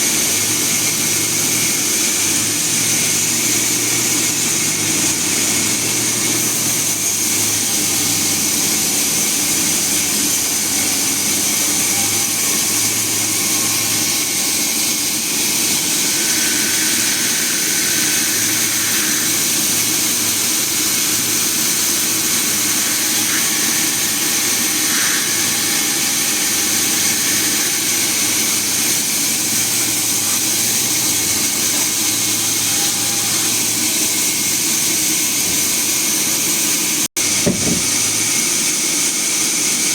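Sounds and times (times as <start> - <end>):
high machine whine: 0.0 - 39.8
sawmill machinery drone: 0.0 - 39.9.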